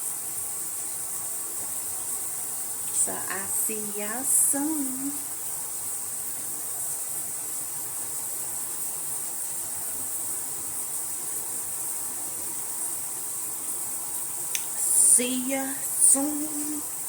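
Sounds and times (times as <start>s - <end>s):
shower water spray hissing: 0.0s - 17.0s.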